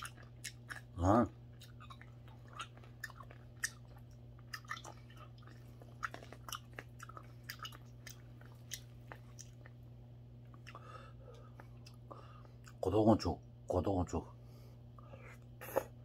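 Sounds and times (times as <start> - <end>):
chewing and mouth smacks: 0.0 - 12.8
steady low hum: 0.0 - 16.0.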